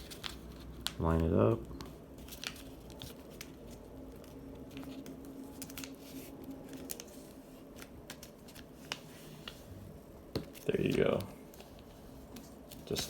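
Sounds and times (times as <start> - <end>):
paper rustling and scraping: 0.0 - 9.8, 10.4 - 13.0.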